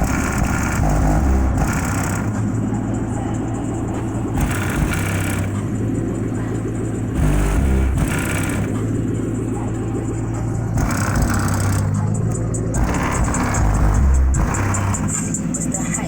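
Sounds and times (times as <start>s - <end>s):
heavy bass notes: 0.0s - 16.0s
hip-hop track on car stereo: 0.0s - 16.0s.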